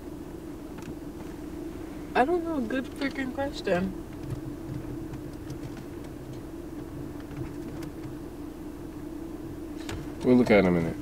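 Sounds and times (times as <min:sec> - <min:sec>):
car drone inside cabin: 0:00.0 - 0:11.0.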